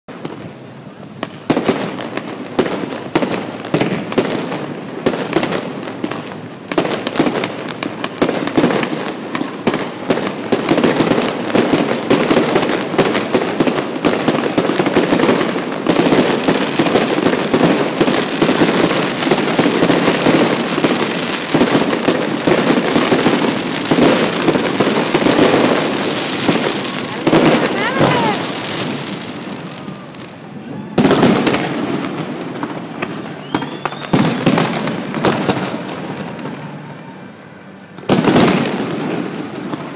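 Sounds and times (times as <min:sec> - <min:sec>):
fireworks bangs and crackles: 0:00.1 - 0:39.9.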